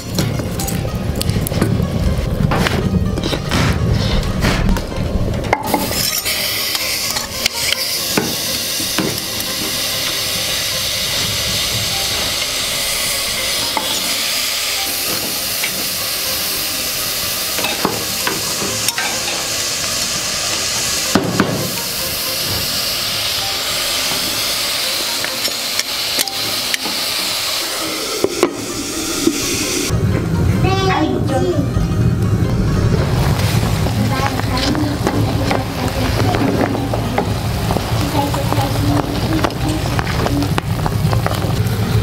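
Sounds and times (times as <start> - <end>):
food sizzling on hot stones: 0.0 - 3.1, 5.7 - 29.9, 32.7 - 42.0.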